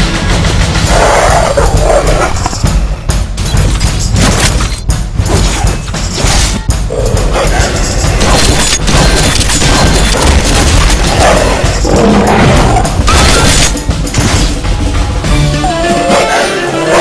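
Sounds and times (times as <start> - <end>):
soundtrack music: 0.0 - 17.0.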